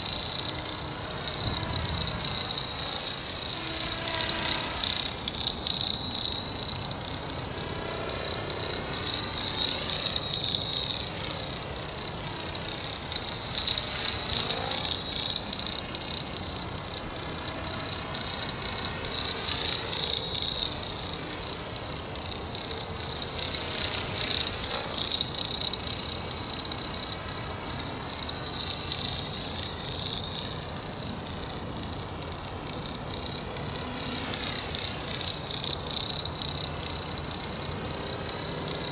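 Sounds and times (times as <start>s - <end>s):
rc helicopter rotor whine: 0.0s - 38.9s.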